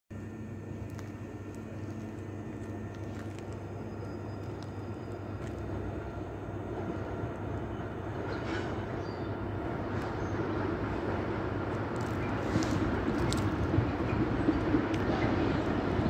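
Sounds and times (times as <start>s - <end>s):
diesel locomotive engine drone: 0.1s - 16.0s.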